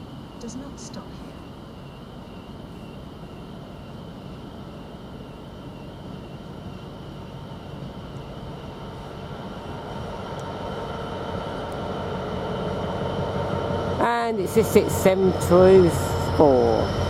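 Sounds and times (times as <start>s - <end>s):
diesel locomotive engine: 0.0s - 17.0s
high whine: 0.0s - 17.0s.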